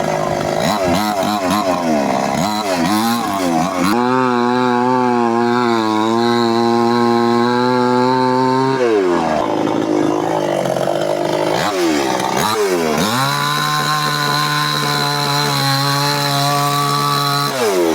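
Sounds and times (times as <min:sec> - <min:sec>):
chainsaw engine revving: 0:00.0 - 0:17.9.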